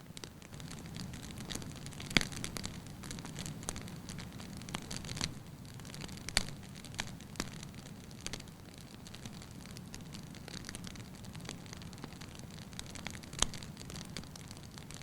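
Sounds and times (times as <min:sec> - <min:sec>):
burning logs popping: 0:00.0 - 0:15.0
flame hiss and rumble: 0:00.0 - 0:15.0
wood fire crackling: 0:00.0 - 0:15.0.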